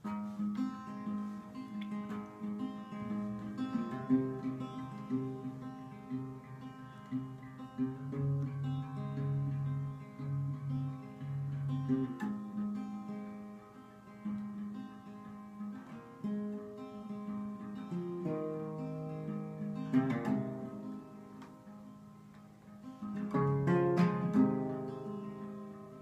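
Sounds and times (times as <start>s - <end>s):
guitar chords ringing: 0.0s - 26.0s.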